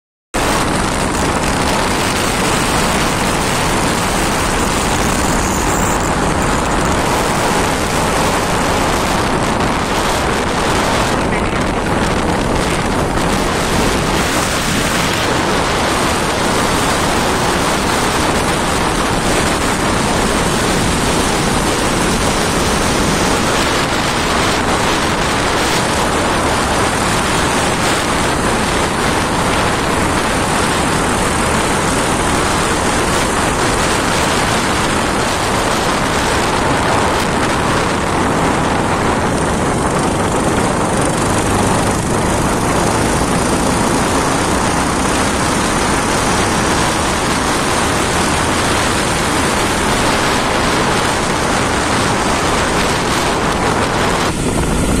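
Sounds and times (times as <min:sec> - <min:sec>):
wind rush on microphone: 0:00.4 - 0:55.0.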